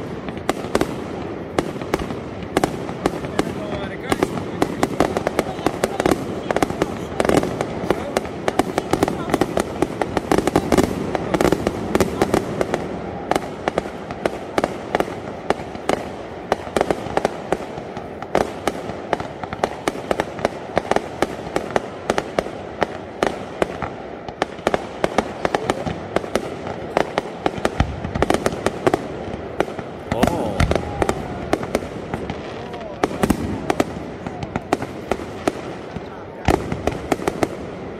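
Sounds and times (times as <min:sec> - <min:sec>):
fireworks bangs: 0:00.0 - 0:37.9.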